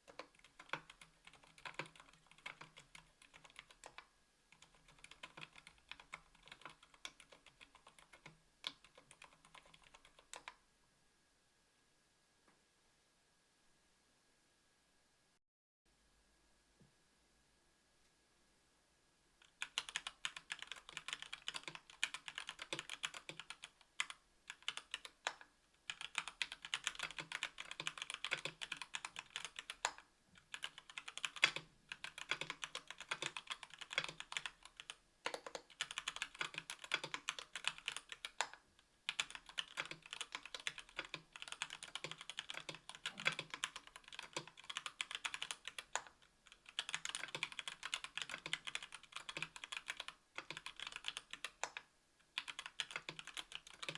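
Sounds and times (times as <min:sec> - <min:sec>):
mechanical keyboard typing: 0:00.0 - 0:10.6, 0:19.4 - 0:53.9.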